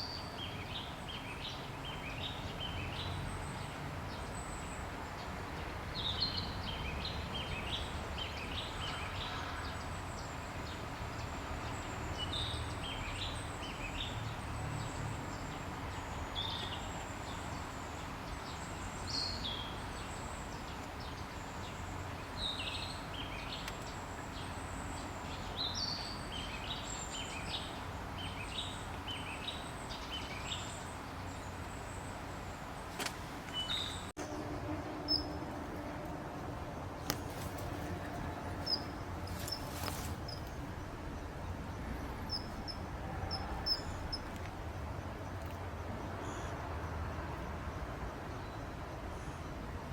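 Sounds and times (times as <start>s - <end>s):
birds chirping: 0.0s - 36.0s, 36.8s - 44.5s.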